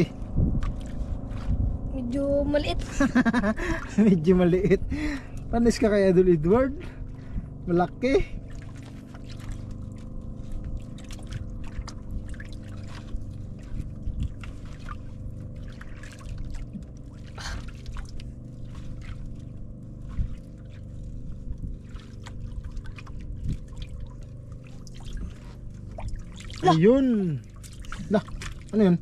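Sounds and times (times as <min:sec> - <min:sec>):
steady low hum: 0:00.0 - 0:29.0
water trickling and splashing: 0:00.0 - 0:29.0.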